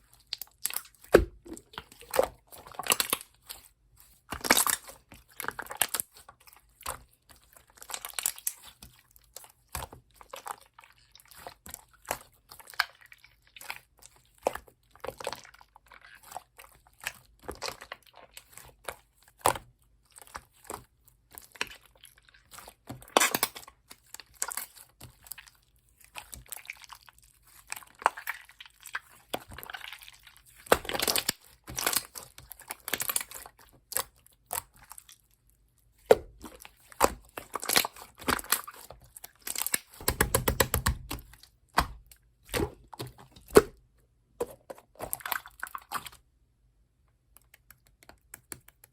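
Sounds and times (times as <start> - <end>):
slime squelching and crackling: 0.0 - 43.8, 44.6 - 46.3.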